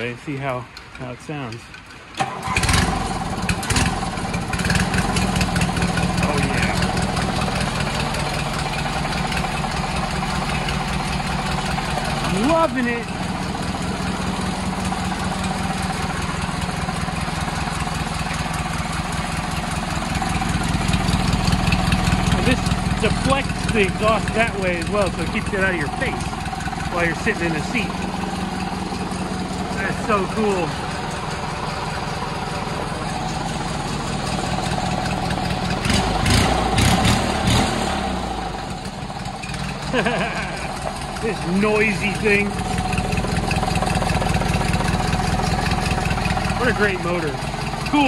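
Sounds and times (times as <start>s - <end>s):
lawn tractor engine running: 0.0s - 48.0s.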